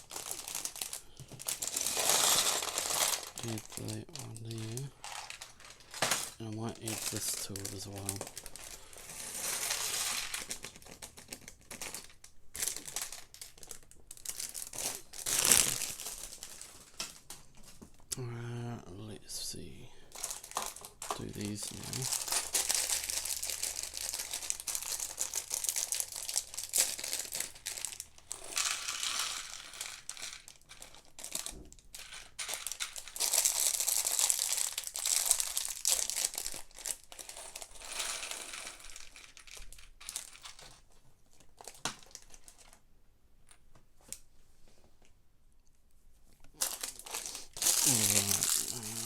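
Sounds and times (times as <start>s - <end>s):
plastic bags crinkling: 0.0s - 17.9s, 20.1s - 42.8s, 46.5s - 49.0s.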